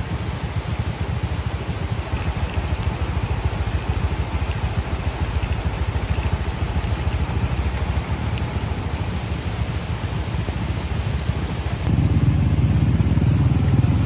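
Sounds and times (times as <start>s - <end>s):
motorcycle engine running low: 0.0s - 14.0s.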